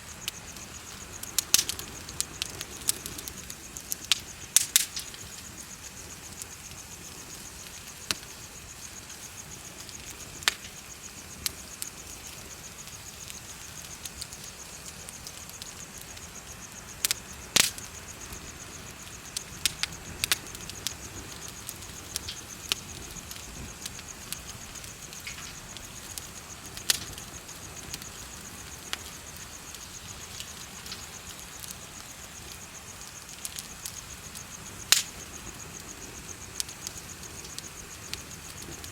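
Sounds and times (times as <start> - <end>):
bonfire crackling: 0.0 - 38.9
insects chirping: 0.0 - 38.9.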